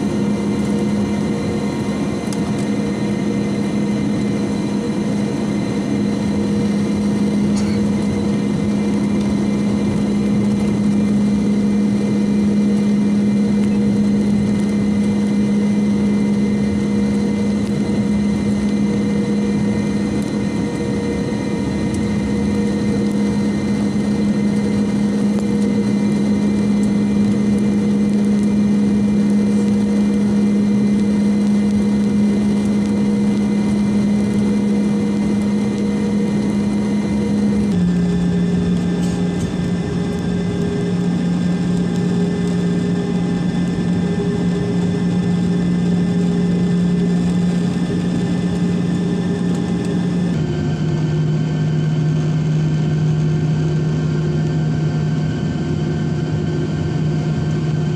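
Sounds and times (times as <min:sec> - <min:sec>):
jet engine idling hum: 0:00.0 - 0:57.9.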